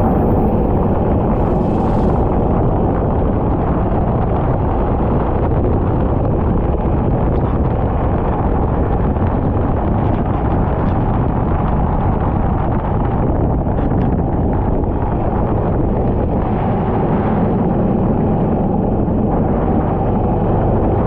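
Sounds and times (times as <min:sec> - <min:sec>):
racing kart engine running: 0:00.0 - 0:21.0
wind buffeting microphone: 0:00.0 - 0:21.0.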